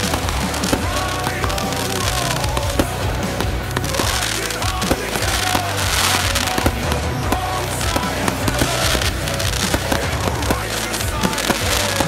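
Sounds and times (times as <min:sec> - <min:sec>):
fireworks bangs: 0:00.0 - 0:12.0
song playing: 0:00.0 - 0:12.0.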